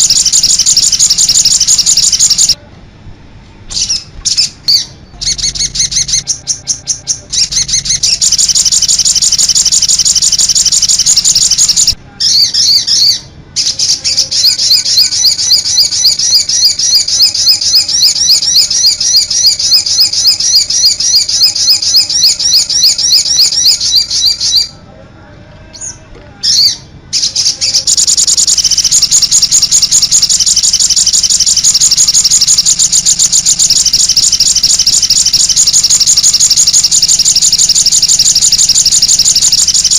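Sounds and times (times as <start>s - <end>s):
songbird trilling: 0.0s - 2.6s, 3.7s - 24.7s, 25.8s - 39.9s.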